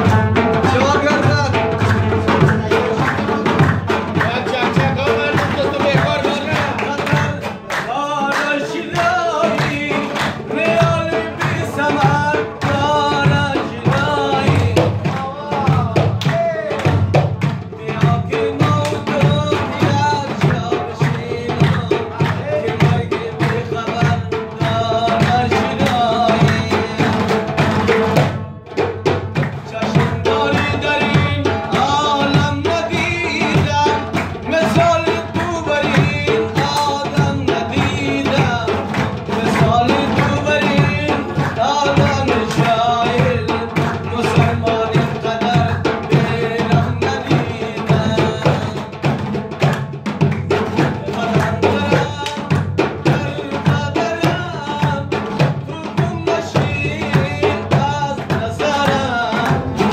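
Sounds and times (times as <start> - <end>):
hand clapping: 0.0 - 59.9
hand drum beating: 0.0 - 59.9
man singing: 0.0 - 59.9.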